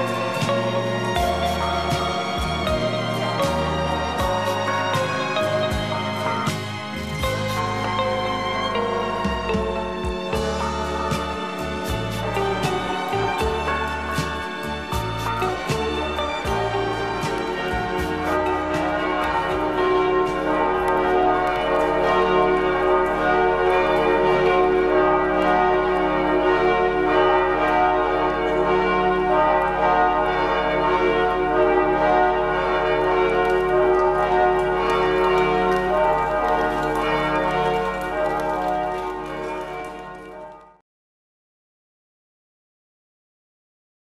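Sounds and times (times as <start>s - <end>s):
church bells ringing in a peal: 0.0s - 40.8s.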